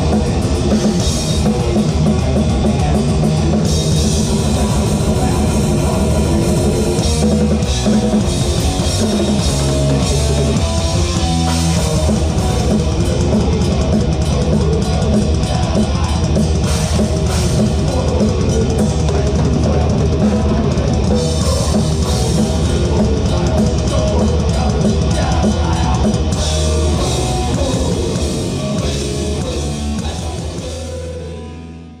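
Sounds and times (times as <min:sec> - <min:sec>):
fast drumming: 0:00.0 - 0:31.4
distorted electric guitars: 0:00.0 - 0:32.0
heavy metal band playing: 0:00.0 - 0:32.0.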